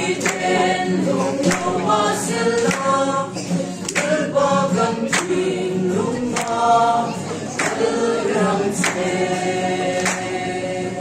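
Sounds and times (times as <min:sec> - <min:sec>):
acoustic guitar strumming: 0:00.0 - 0:11.0
group singing carol in harmony: 0:00.0 - 0:11.0.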